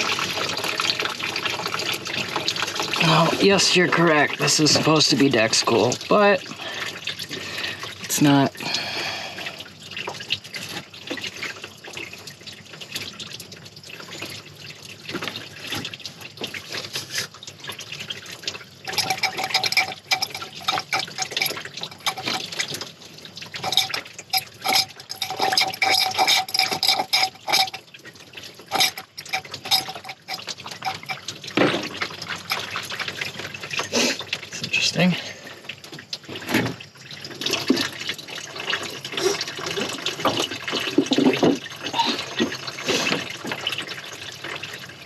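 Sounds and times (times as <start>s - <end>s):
liquid splashing into a bucket: 0.0s - 45.0s.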